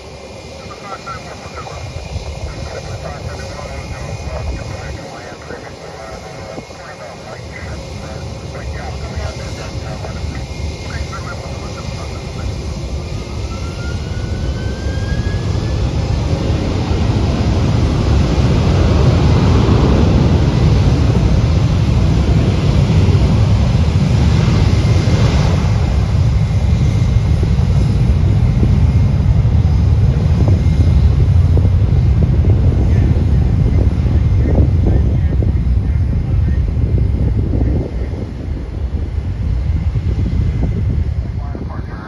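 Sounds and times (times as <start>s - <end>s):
jet engines spooling up: 0.0s - 35.6s.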